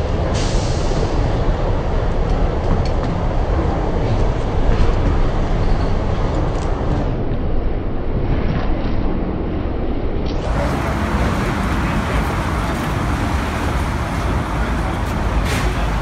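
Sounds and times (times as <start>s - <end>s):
road traffic roar: 0.0s - 16.0s.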